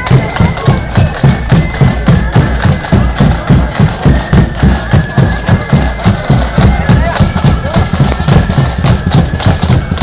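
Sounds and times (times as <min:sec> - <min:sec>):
drums beating steadily: 0:00.0 - 0:10.0
high wind melody: 0:00.0 - 0:10.0.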